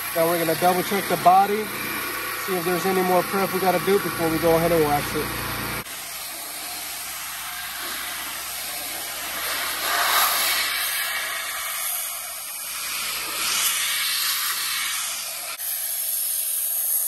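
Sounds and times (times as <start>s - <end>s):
air blower rushing: 0.0s - 17.0s.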